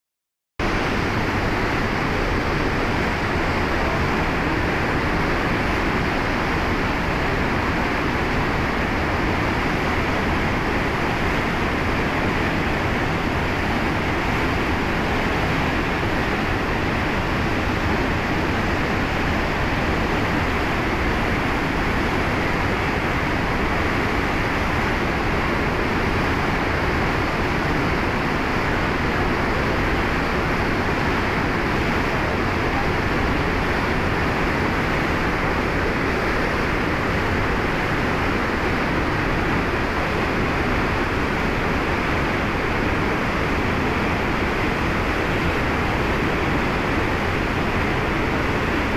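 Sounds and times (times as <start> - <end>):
river rushing over rocks: 0.6 - 48.9.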